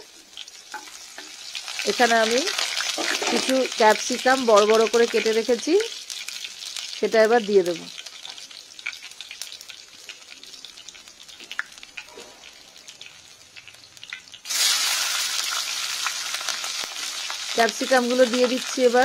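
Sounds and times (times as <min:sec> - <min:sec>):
garlic sizzling in hot oil: 0:00.0 - 0:19.0
loud steady sizzle: 0:00.0 - 0:19.0.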